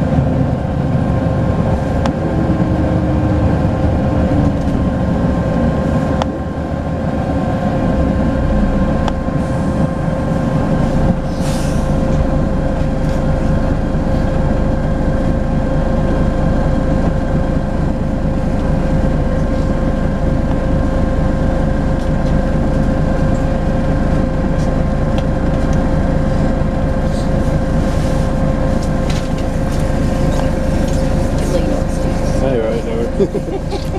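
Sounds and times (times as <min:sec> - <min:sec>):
bus diesel engine running: 0:00.0 - 0:33.9.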